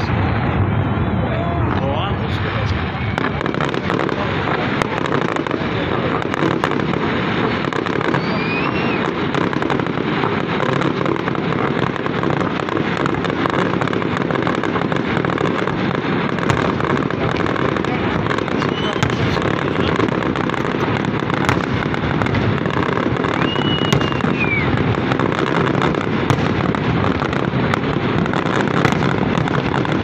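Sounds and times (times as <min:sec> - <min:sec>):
fireworks crackling and popping: 0:00.0 - 0:30.0.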